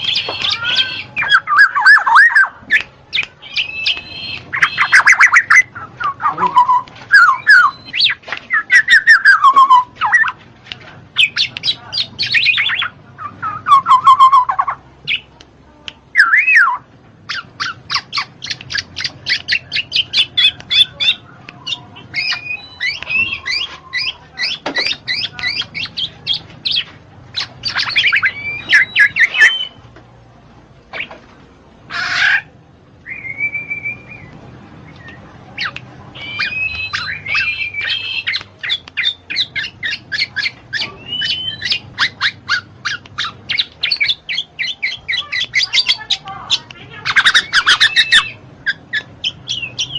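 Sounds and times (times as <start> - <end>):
bird whistles and squawks: 0.0 - 10.4, 11.2 - 15.2, 16.2 - 29.8, 34.9 - 49.9
rapid sharp bird notes: 0.0 - 10.4, 16.2 - 29.8, 33.1 - 49.9.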